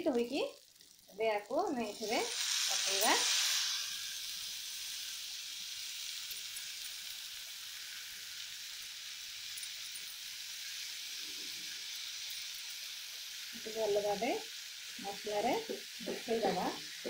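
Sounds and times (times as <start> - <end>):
leaves sizzling in hot oil: 0.0 - 17.0.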